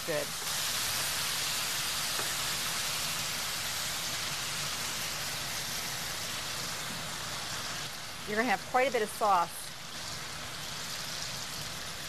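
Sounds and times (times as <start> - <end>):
chicken sizzling on grill pan: 0.0 - 12.0.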